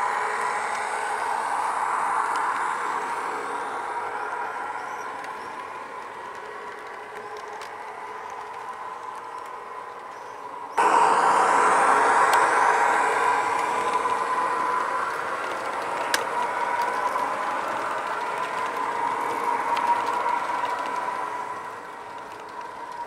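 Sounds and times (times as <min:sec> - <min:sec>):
model train wheels rolling on rails: 0:00.0 - 0:23.0
model train whine: 0:00.0 - 0:23.0.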